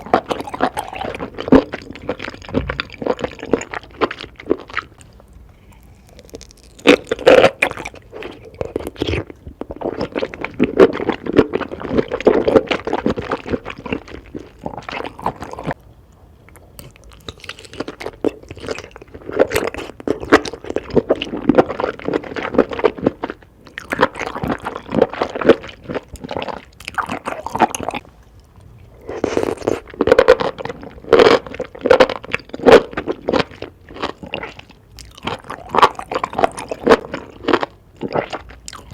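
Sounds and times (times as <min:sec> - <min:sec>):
crunchy chewing: 0:00.0 - 0:15.8, 0:16.5 - 0:38.9.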